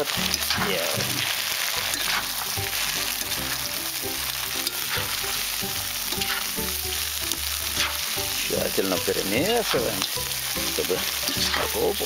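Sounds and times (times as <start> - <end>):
carrots and meat sizzling in oil: 0.0 - 12.0.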